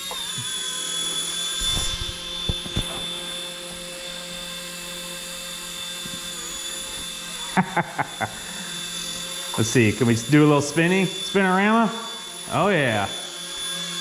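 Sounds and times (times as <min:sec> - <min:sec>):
mini helicopter motor whining: 0:00.0 - 0:14.0.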